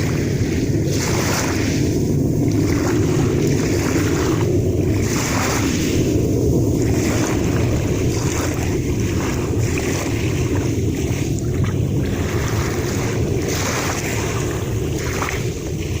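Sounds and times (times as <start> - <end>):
sea waves washing: 0.0 - 16.0
wind on microphone: 0.0 - 16.0.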